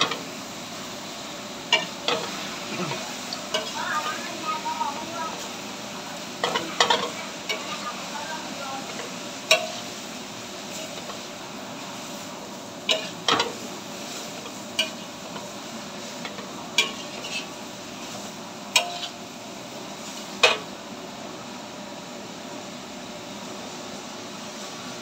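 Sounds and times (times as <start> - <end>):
food sizzling: 0.0 - 25.0.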